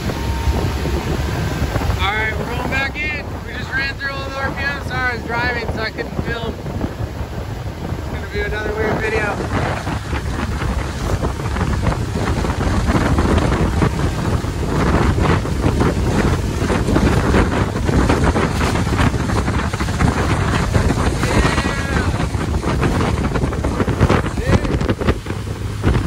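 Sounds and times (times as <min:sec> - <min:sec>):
water rushing along hull: 0:00.0 - 0:26.0
wind buffeting microphone: 0:00.0 - 0:26.0.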